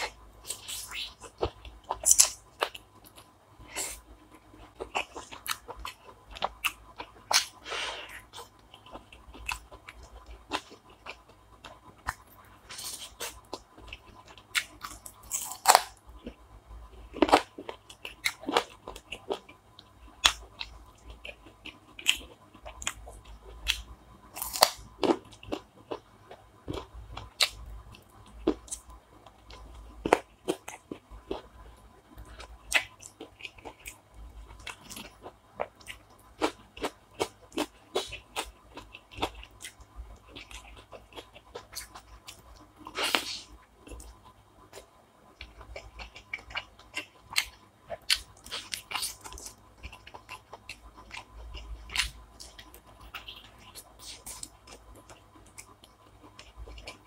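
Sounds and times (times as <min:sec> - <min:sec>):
chewing and biting food: 0:00.0 - 0:16.4, 0:17.0 - 0:57.0
food crunching: 0:00.0 - 0:16.4, 0:17.0 - 0:57.0.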